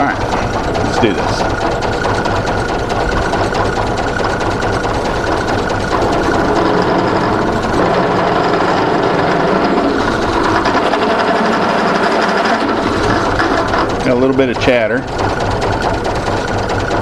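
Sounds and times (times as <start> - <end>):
drill bit chattering: 0.0 - 17.0
drill press cutting metal: 0.0 - 17.0.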